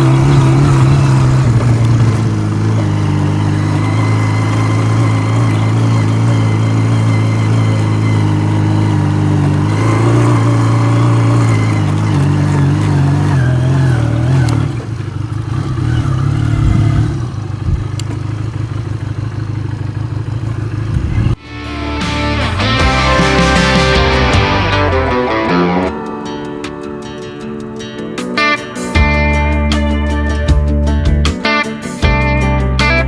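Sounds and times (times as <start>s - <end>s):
guitar music: 0.0s - 15.0s, 21.3s - 33.0s
engine running: 0.0s - 31.4s.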